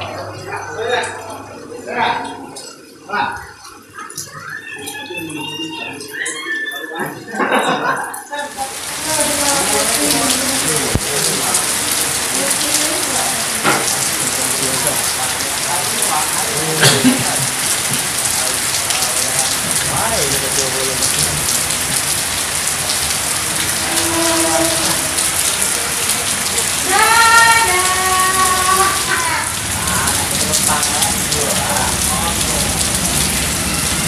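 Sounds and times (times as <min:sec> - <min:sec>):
rain falling: 0:00.0 - 0:07.5, 0:08.2 - 0:34.0
faint voices: 0:00.0 - 0:34.0.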